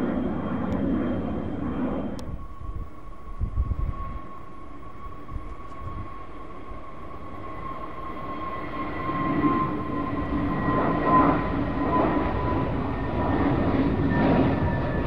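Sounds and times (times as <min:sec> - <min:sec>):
jet engines at take-off thrust: 0:00.0 - 0:15.0.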